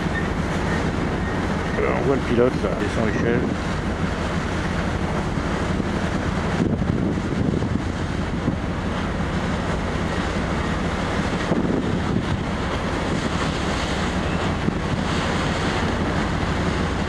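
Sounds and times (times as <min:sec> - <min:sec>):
low engine drone: 0:00.0 - 0:17.0
seawater rushing along hull: 0:00.0 - 0:17.0
wind buffeting microphone: 0:00.0 - 0:17.0.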